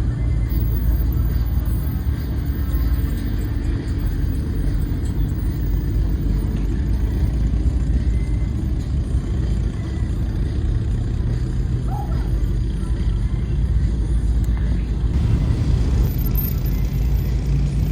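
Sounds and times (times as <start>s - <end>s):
car engine rumbling: 0.0s - 17.9s.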